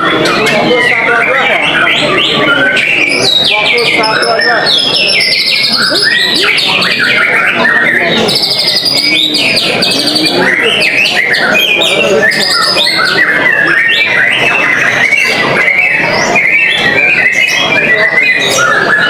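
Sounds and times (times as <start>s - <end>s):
bird singing whistles and chirps: 0.0s - 19.0s.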